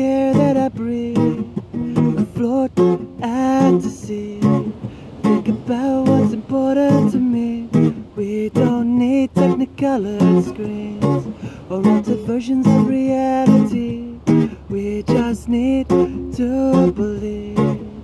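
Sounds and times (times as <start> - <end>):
acoustic guitar strumming: 0.0 - 18.0
man singing: 0.0 - 18.0.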